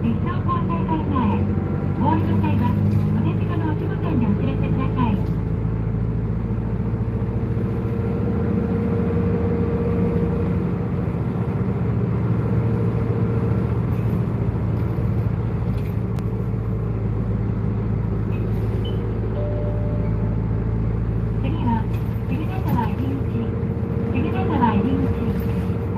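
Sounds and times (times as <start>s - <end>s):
bus engine drone: 0.0s - 25.9s
road noise: 0.0s - 25.9s.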